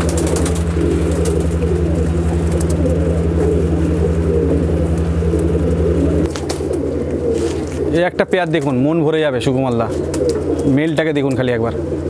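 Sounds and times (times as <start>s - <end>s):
low pulsing mechanical hum: 0.0s - 12.0s
pigeons cooing: 0.0s - 12.0s.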